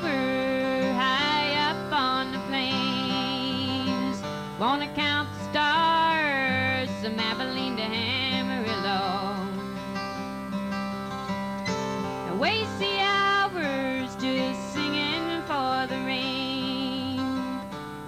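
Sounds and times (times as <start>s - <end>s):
woman singing: 0.0s - 10.0s, 12.1s - 17.8s
strummed acoustic guitar: 0.0s - 18.0s.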